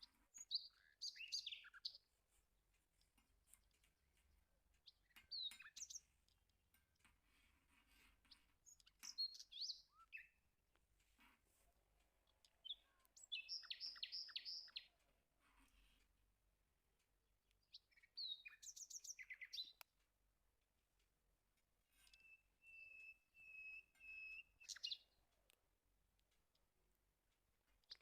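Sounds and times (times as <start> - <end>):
faint bird chirping: 0.0 - 20.2, 21.0 - 28.0.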